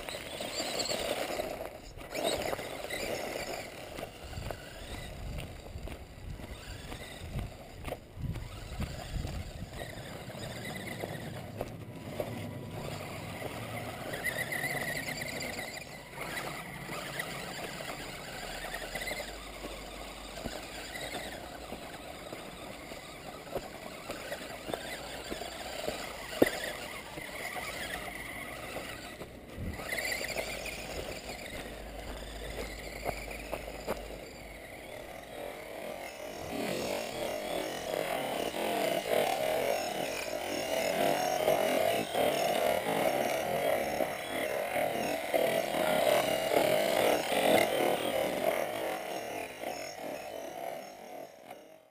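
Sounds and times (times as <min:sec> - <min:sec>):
electric motor and gears whining: 0:00.0 - 0:51.9.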